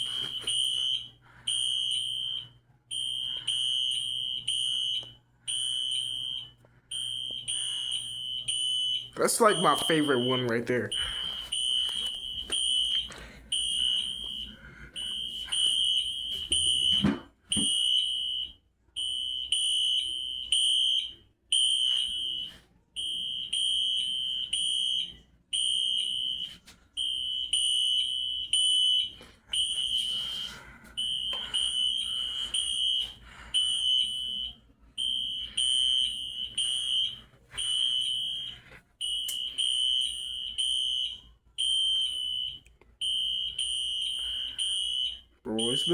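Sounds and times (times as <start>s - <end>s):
fire alarms pulsing tone: 0.0s - 45.9s.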